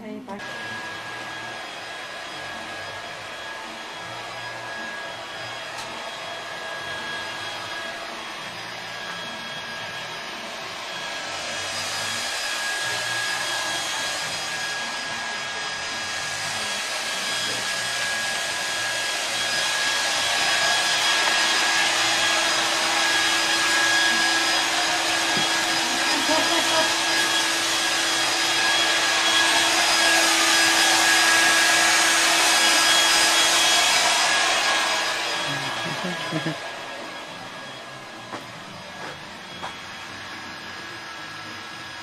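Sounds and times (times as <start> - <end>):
hair dryer blowing: 0.0 - 42.0.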